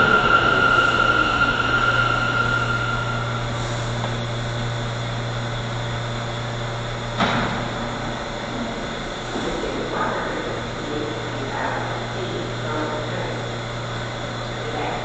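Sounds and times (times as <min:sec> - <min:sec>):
low hum of standing train: 0:00.0 - 0:15.0
train high whine: 0:00.0 - 0:15.0.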